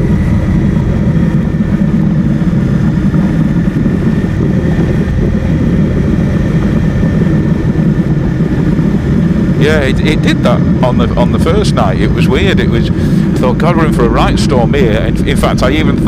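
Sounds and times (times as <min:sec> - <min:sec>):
motorcycle engine: 0:00.0 - 0:16.0
wind noise rushing: 0:00.0 - 0:16.0.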